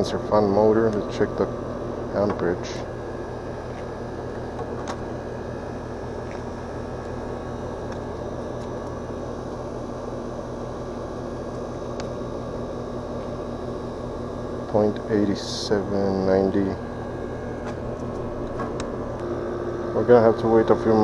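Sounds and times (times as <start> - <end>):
air conditioner unit humming: 0.0 - 21.0.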